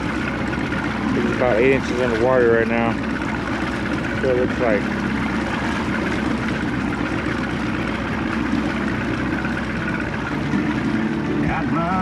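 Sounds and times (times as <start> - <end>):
boat motor idling: 0.0 - 12.0
water: 0.0 - 12.0
wind: 0.0 - 12.0.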